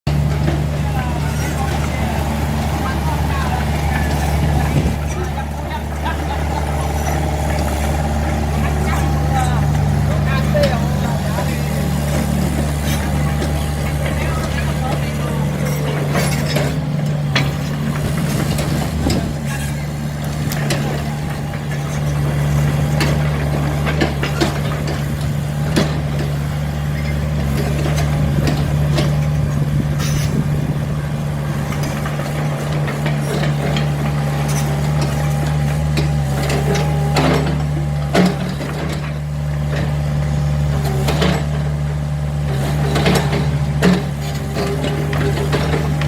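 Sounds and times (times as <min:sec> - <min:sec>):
excavator diesel engine running: 0:00.0 - 0:46.0
machine knocks and clanks: 0:00.1 - 0:46.0.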